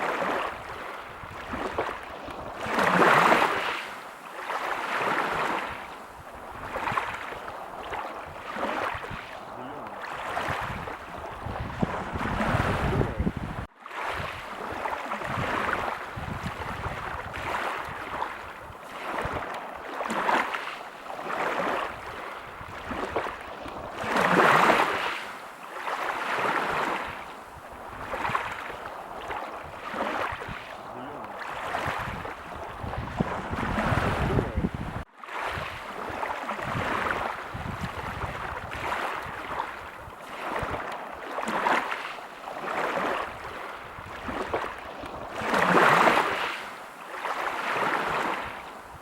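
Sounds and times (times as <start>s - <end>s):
wind rumbling on microphone: 0.0s - 4.0s, 4.8s - 20.4s, 21.2s - 25.5s, 26.1s - 41.8s, 42.5s - 46.8s
waves breaking on a beach: 0.0s - 49.0s.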